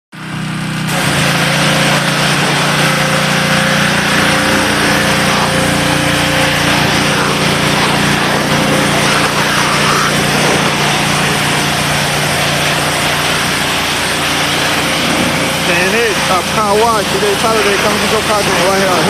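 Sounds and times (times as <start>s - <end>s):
small engine running: 0.2s - 19.0s.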